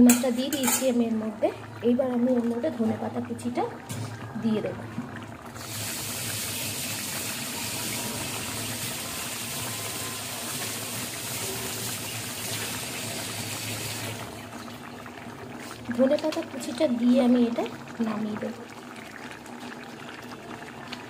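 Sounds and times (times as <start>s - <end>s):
curry bubbling in a wok: 0.0s - 21.0s.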